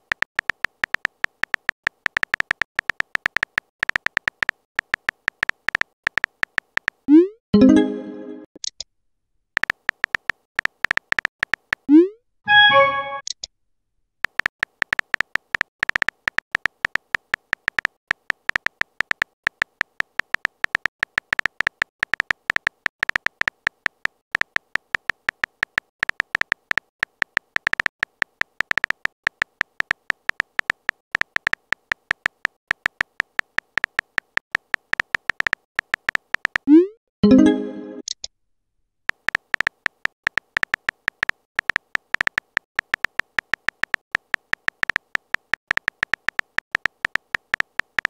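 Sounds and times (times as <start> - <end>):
phone keyboard typing clicks: 0.0 - 7.0, 9.6 - 11.9, 14.2 - 36.7, 39.1 - 48.0.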